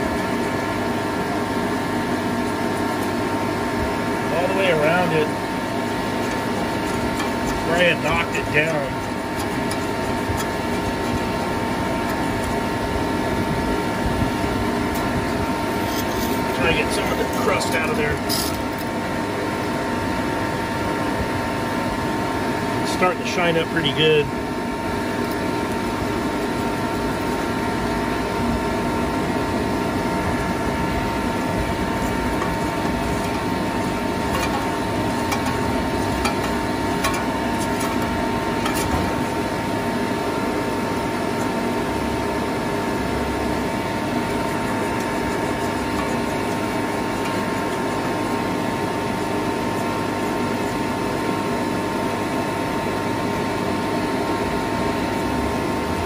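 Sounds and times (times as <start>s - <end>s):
machinery drone with whine: 0.0s - 56.0s.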